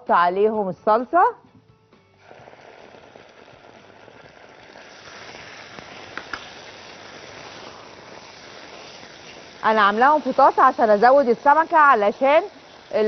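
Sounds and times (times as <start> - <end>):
onions sizzling in a pan: 2.2 - 13.0.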